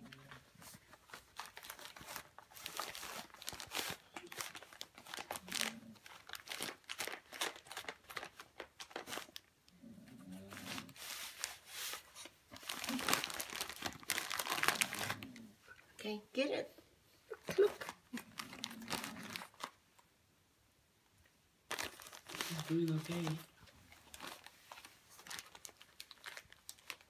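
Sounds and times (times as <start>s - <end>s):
wrapping paper crinkling and tearing: 0.0s - 9.5s, 10.4s - 15.5s, 17.5s - 19.8s, 21.7s - 27.0s.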